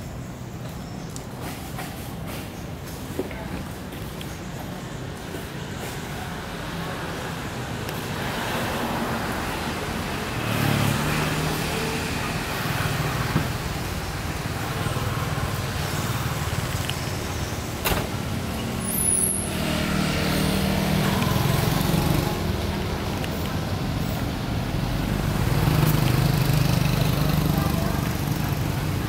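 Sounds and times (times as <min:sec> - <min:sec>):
road traffic noise: 0:00.0 - 0:29.0
vehicle engines passing: 0:00.0 - 0:29.0.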